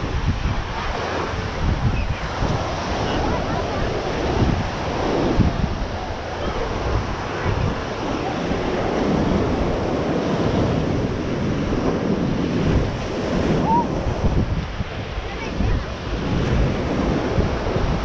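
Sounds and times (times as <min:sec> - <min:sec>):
ocean surf on sandy beach: 0:00.0 - 0:18.0
wind buffeting microphone: 0:00.0 - 0:18.0.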